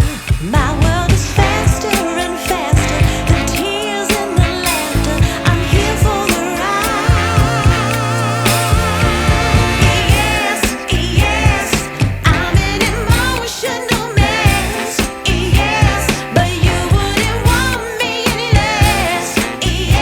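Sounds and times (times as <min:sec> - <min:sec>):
pop music with steady beat: 0:00.0 - 0:20.0
person singing: 0:00.1 - 0:20.0.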